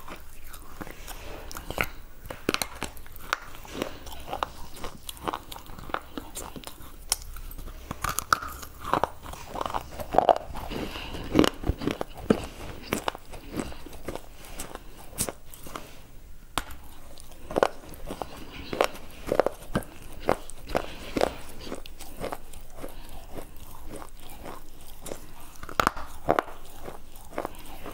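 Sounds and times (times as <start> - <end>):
chalky bar crunching between teeth: 0.0 - 16.0, 16.6 - 27.9.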